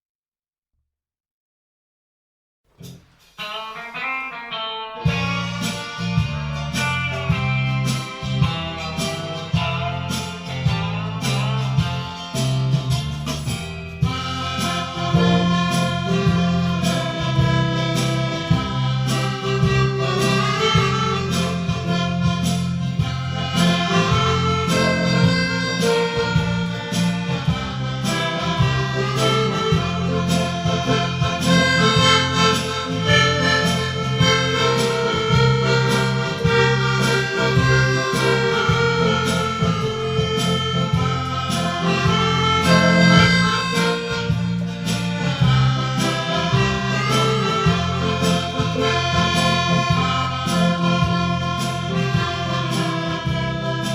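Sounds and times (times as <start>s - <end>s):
instrumental music with steady beat: 2.7s - 53.9s.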